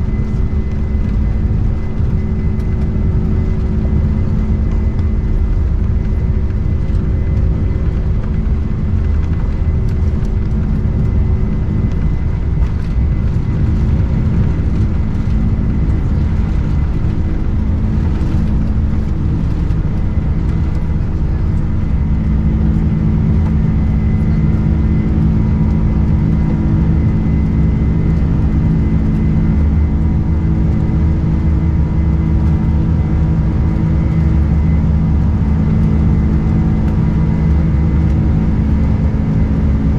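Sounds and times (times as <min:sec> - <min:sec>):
jet engines droning in cabin: 0:00.0 - 0:39.9
low rumble: 0:00.0 - 0:39.9.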